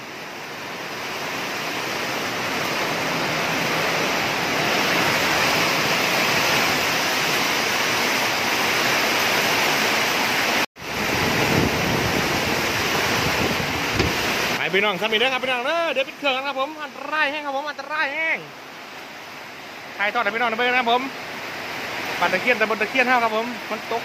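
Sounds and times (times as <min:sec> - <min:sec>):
heavy wind-driven rain: 0:00.0 - 0:24.0.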